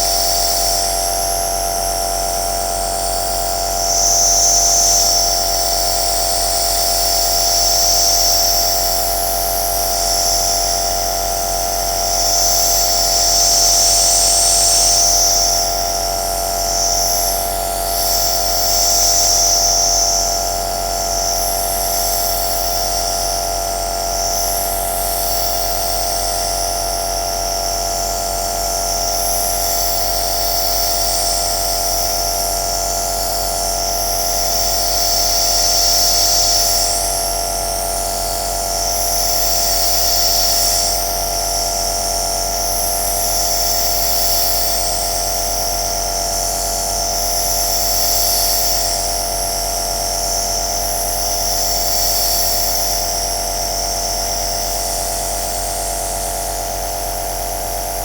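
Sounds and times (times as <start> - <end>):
nebulizer motor hum and whine: 0.0 - 58.0.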